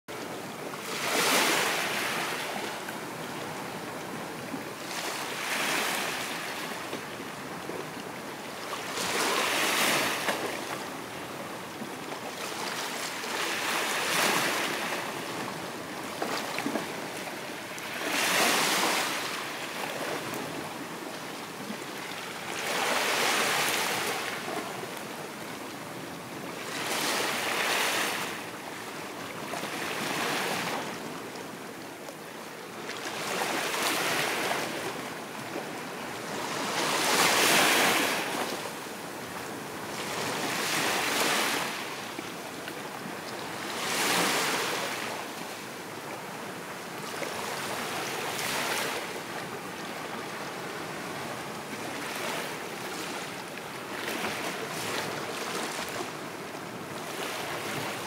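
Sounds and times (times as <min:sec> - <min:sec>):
waves breaking on beach: 0:00.1 - 0:58.0.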